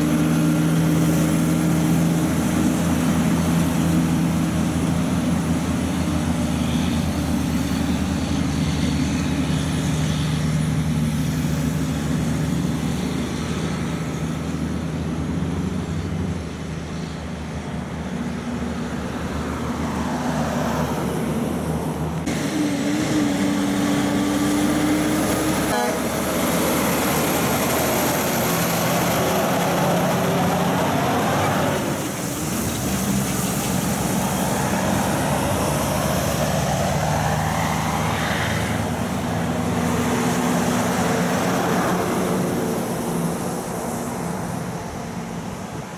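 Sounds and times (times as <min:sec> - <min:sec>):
diesel truck engines: 0:00.0 - 0:45.9
tyre noise on wet road: 0:00.0 - 0:45.9.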